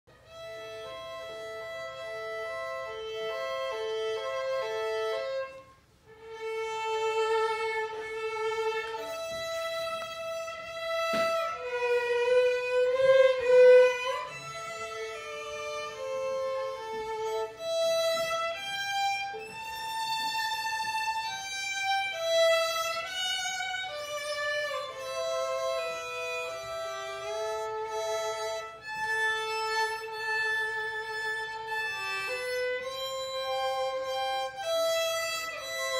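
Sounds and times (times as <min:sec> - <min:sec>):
violin duet: 0:00.1 - 0:35.9.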